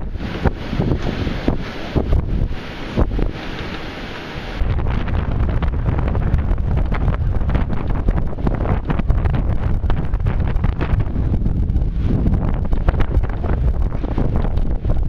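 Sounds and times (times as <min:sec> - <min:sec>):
strong gusting wind on microphone: 0:00.0 - 0:15.0.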